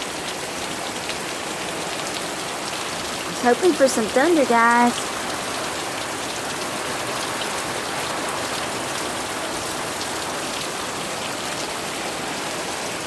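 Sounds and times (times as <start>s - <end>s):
rain pattering on surfaces: 0.0s - 13.0s.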